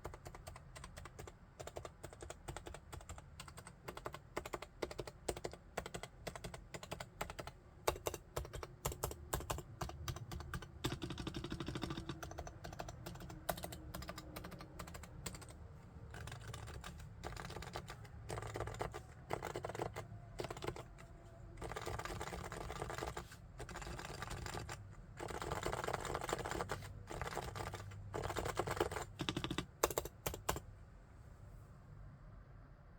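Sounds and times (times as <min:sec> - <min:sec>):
keyboard typing: 0:00.0 - 0:30.6.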